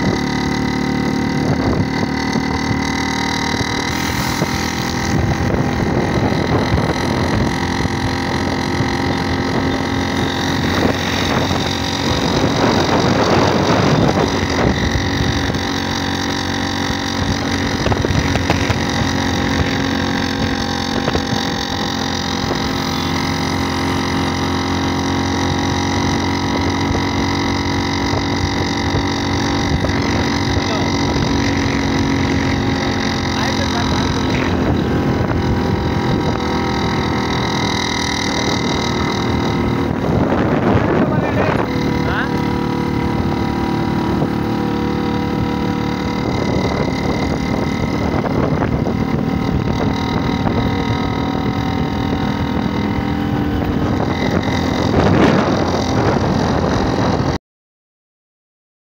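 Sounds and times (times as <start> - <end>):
motorcycle engine cruising: 0.0 - 57.4
wind buffeting microphone: 1.2 - 57.4.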